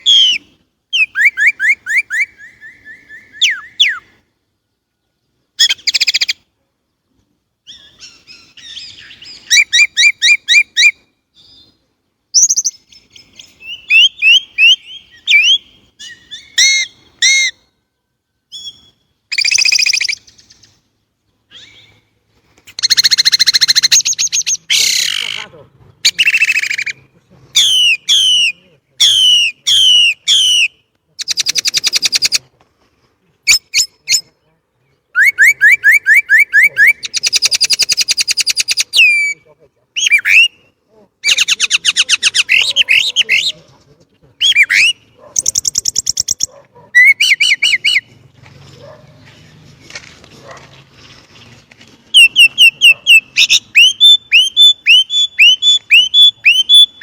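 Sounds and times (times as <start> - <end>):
blackbird singing: 0.0 - 4.2, 5.6 - 6.4, 7.6 - 17.7, 18.5 - 20.8, 21.4 - 22.1, 22.7 - 32.4, 33.5 - 43.6, 44.3 - 48.1, 52.1 - 57.0.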